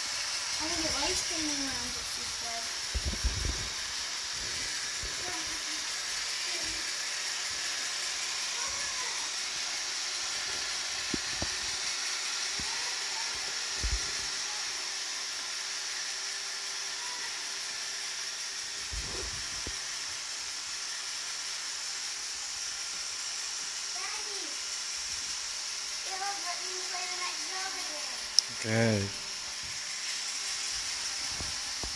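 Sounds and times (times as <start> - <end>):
robot vacuum whirring: 0.0 - 31.9.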